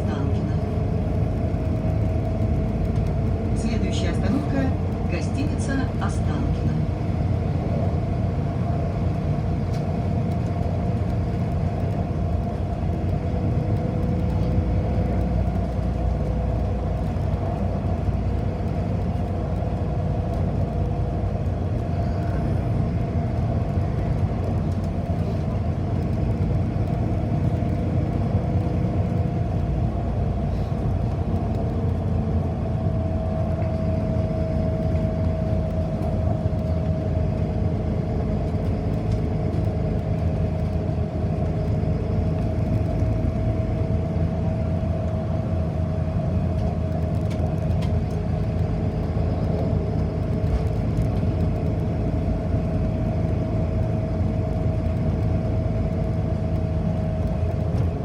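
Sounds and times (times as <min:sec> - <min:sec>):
bus drivetrain and road rumble: 0:00.0 - 0:58.0.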